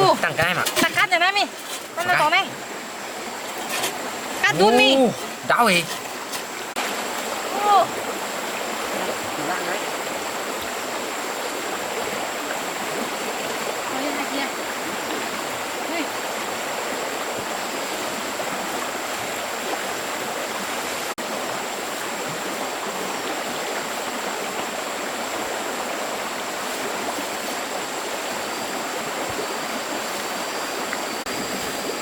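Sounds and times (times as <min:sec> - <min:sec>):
stream water flowing: 0:00.0 - 0:32.0.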